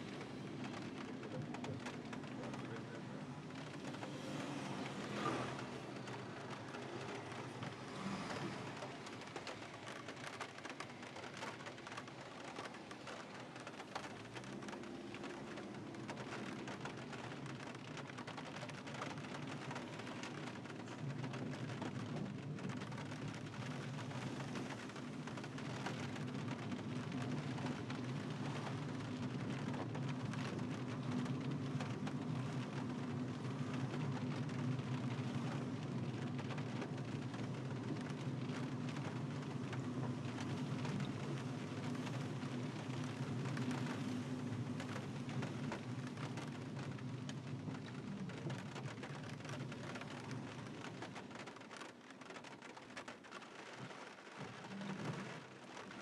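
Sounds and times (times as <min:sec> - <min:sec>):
car driving on wet road: 0:00.0 - 0:56.0
steady rain: 0:00.0 - 0:56.0.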